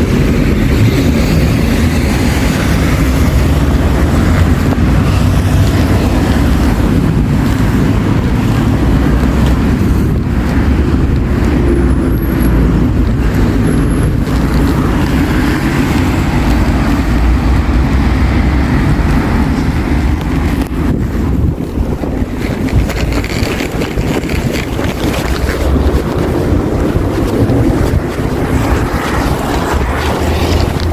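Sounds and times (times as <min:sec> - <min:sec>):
road traffic rumble: 0:00.0 - 0:30.9.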